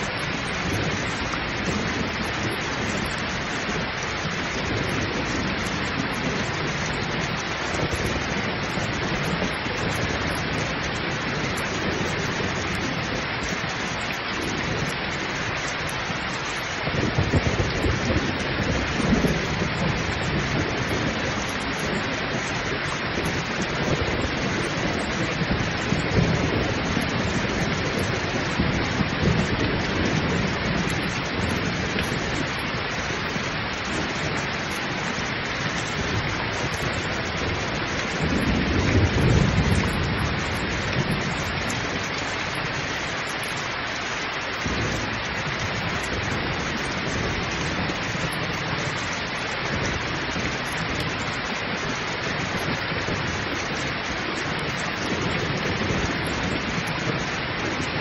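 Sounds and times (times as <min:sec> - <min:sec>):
heavy rain pouring: 0:00.0 - 0:58.0
rolling thunder rumbles: 0:00.0 - 0:58.0.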